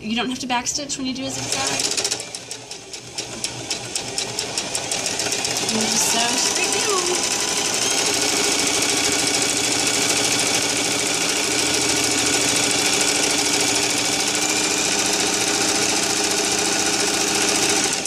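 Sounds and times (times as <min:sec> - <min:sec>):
electric sewing machine running: 0:01.0 - 0:18.0.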